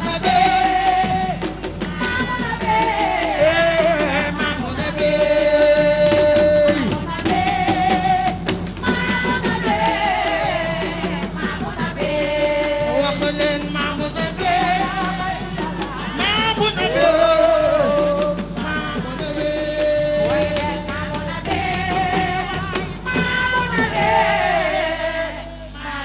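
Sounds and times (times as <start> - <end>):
hand drums: 0.0 - 25.5
woman singing: 0.0 - 26.0.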